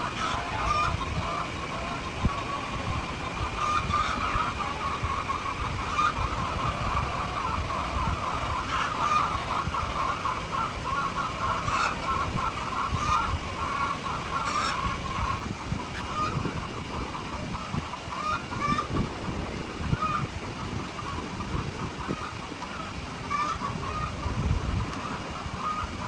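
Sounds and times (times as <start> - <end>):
hens clucking: 0.0 - 26.0
low rumbling noise: 0.0 - 26.0.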